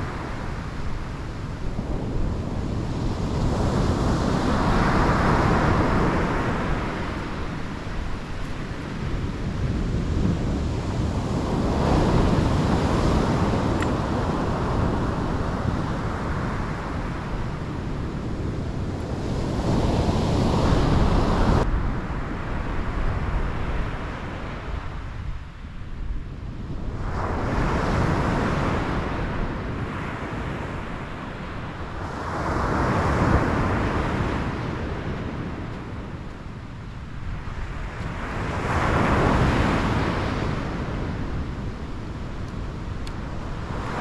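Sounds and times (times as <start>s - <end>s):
waves breaking on beach: 0.0s - 21.6s, 26.8s - 44.0s
wind buffeting microphone: 0.0s - 44.0s.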